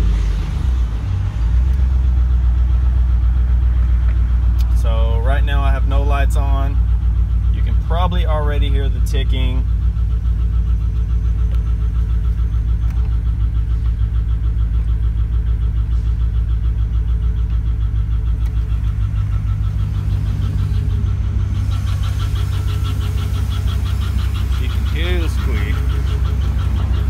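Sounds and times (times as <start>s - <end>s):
car engine idling: 0.0s - 27.0s
rapid engine ticking: 0.0s - 27.0s.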